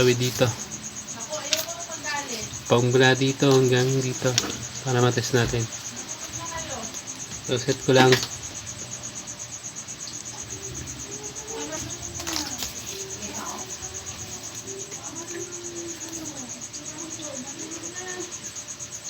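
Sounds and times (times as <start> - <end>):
cricket trilling: 0.0 - 19.0.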